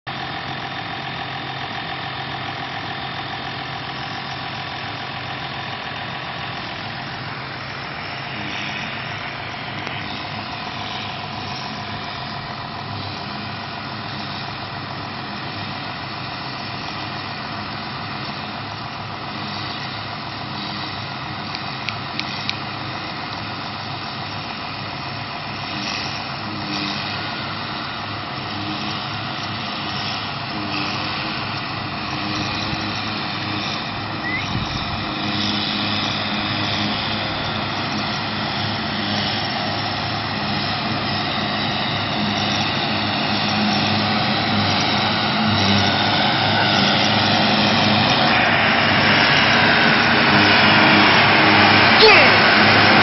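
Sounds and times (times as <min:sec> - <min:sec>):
tractor running under load: 0:00.1 - 0:53.0
forage harvester chopping grass: 0:04.0 - 0:53.0.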